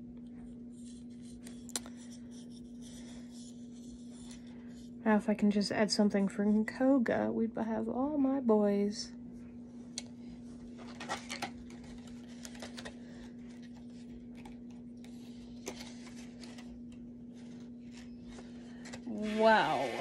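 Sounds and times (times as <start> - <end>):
clothes dryer humming: 0.0 - 20.0.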